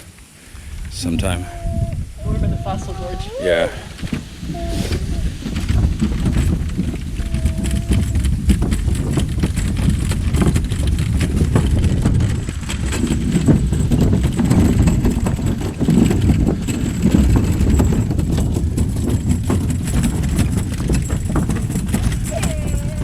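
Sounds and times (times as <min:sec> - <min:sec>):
wagon wheels rolling on rocks: 0:00.8 - 0:23.0.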